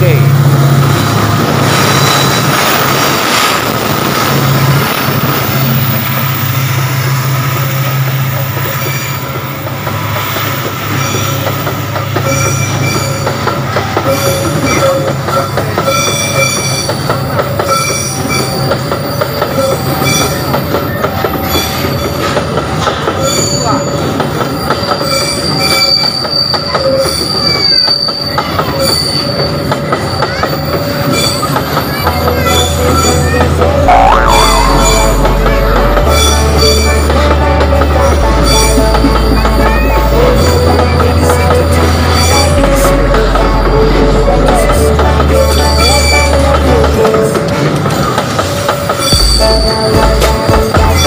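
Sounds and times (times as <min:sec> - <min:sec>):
rolling rumble of wheels: 0:00.0 - 0:51.0
train wheels squealing on rails: 0:00.0 - 0:51.0.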